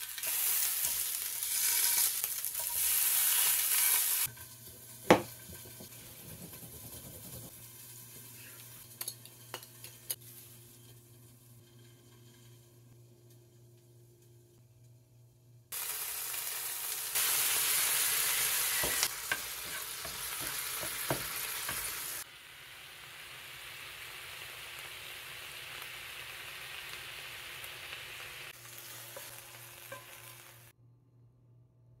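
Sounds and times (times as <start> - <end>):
fish sizzling in frying pan: 0.0 - 12.9, 15.7 - 30.7.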